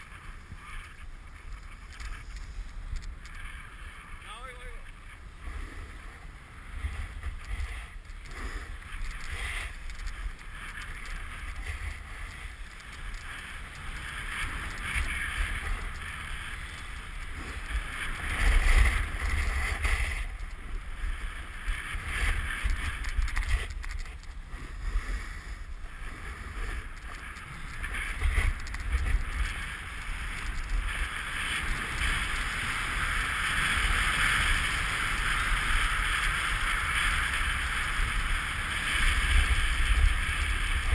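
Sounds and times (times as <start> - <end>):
snowboard scraping over snow: 0.0 - 40.9
wind rumble on microphone: 0.0 - 40.9.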